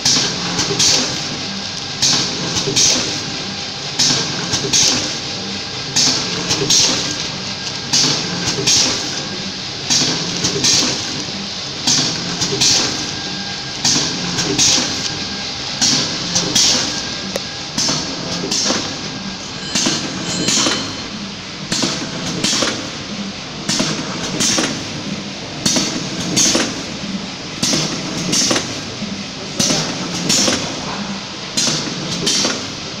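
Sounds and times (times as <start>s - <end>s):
machine running noise: 0.0s - 33.0s
packing machine hissing clacks: 0.0s - 33.0s.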